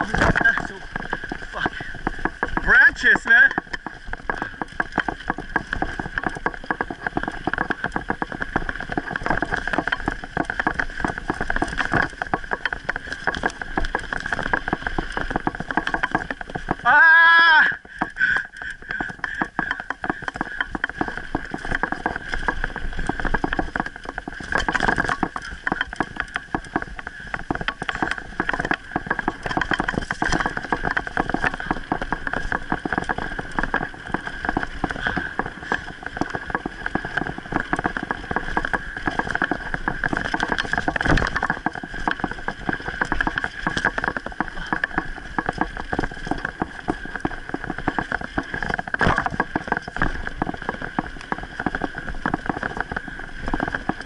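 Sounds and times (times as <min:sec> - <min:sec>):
bike rattling over bumps: 0:00.0 - 0:54.0
tyres crunching on dirt: 0:00.0 - 0:54.0.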